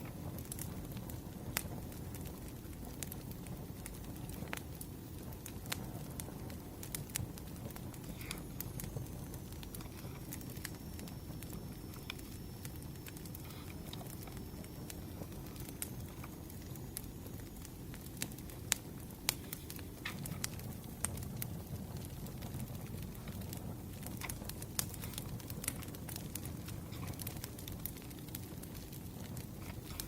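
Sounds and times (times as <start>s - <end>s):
firewood crackling and popping: 0.0s - 30.0s.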